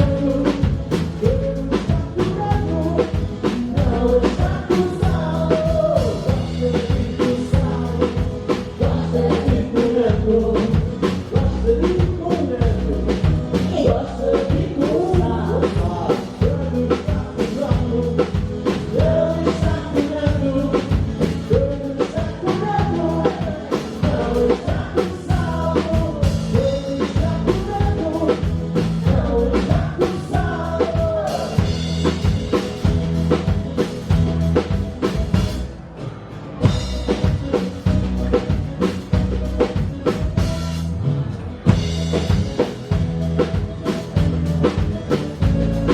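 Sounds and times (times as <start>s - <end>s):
drum kit beat: 0.0s - 35.8s, 36.6s - 45.9s
bass: 0.0s - 45.9s
live band music: 0.0s - 45.9s.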